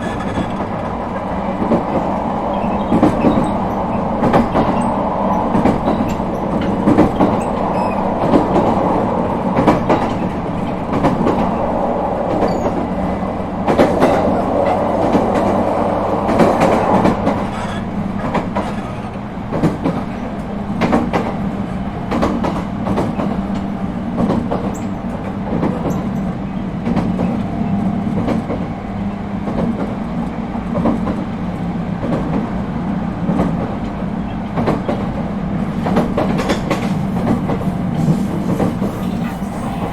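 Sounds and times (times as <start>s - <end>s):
wheels clicking over rail joints: 0.0s - 28.7s, 33.3s - 39.9s
train rolling rumble: 0.0s - 39.9s.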